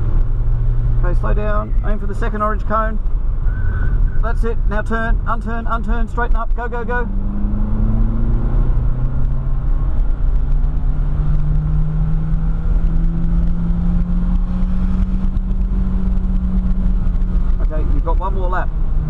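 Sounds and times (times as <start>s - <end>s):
car engine accelerating: 0.0s - 19.0s
wind and road noise: 0.0s - 19.0s.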